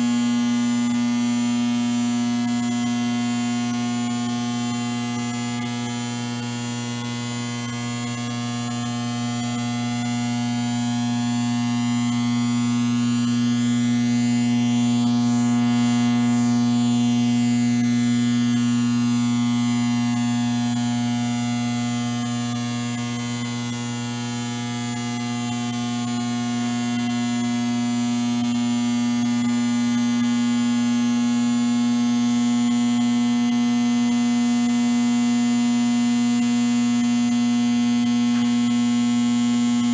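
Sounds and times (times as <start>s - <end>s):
electrical buzzing hum: 0.0s - 27.7s, 34.5s - 39.9s.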